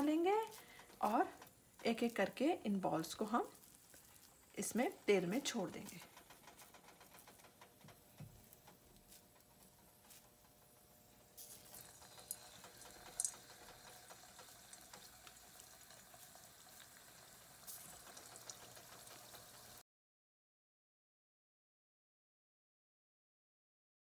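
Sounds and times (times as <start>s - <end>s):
balls deep-frying in hot oil: 0.0s - 19.8s
oil crackles: 0.0s - 19.8s.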